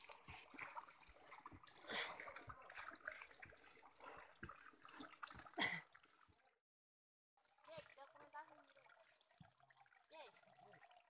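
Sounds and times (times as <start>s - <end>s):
water splashing and squelching: 0.0s - 6.6s, 7.4s - 11.0s.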